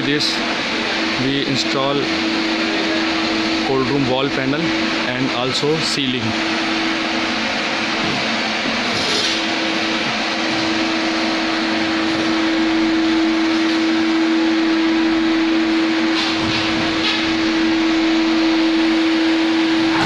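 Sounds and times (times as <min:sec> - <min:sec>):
fan humming and rushing: 0:00.0 - 0:20.0.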